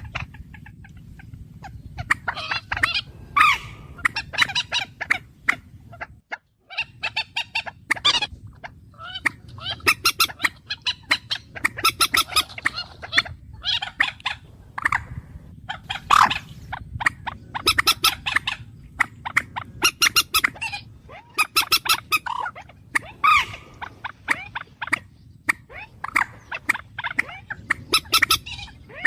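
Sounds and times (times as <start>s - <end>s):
bird calls: 0.0s - 29.0s.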